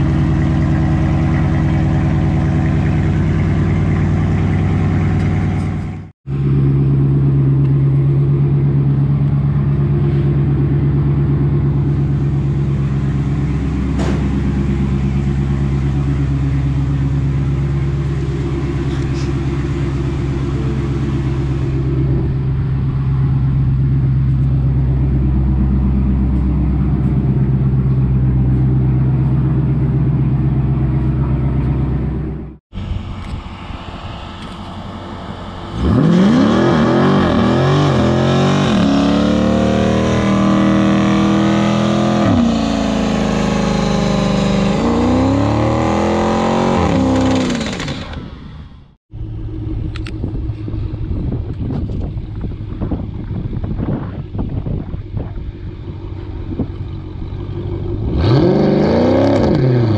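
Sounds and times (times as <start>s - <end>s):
loud car exhaust drone: 0.0s - 59.9s.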